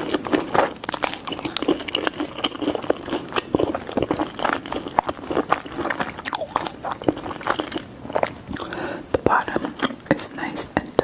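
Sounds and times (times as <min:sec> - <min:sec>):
crunching bites: 0:00.0 - 0:10.0
chewing with wet mouth clicks: 0:00.0 - 0:11.0.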